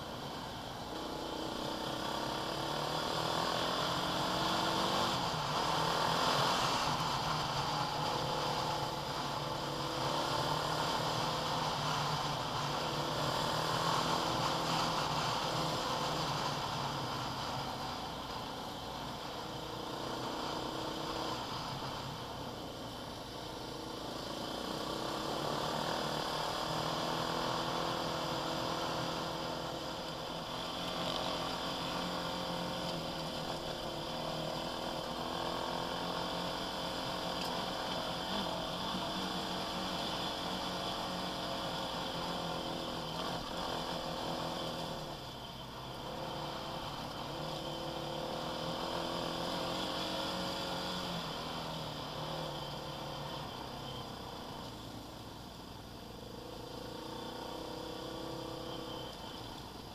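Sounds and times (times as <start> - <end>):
quad bike engine revving: 0.9 - 18.2, 23.5 - 45.3, 46.0 - 54.7, 56.4 - 59.3.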